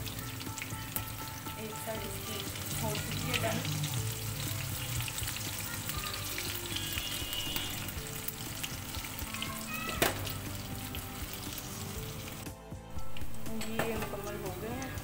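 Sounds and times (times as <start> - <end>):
deep-frying crackling sizzle: 0.0 - 15.0.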